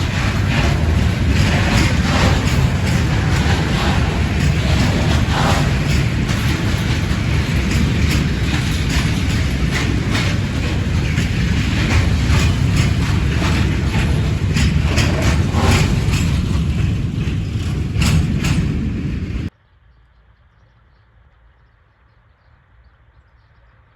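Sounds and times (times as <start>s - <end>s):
wheels clicking over rail joints: 0.0s - 19.5s
train rumble: 0.0s - 19.6s.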